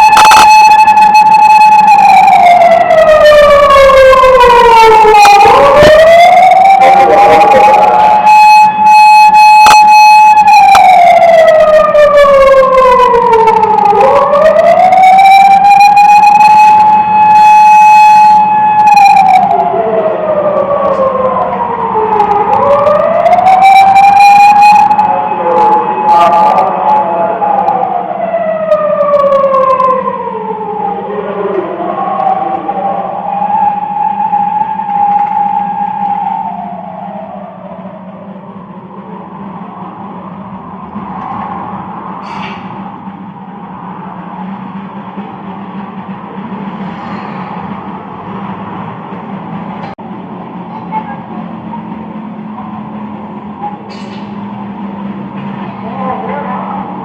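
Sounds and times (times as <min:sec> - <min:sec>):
siren wailing: 0:00.0 - 0:46.7, 0:55.8 - 0:57.0.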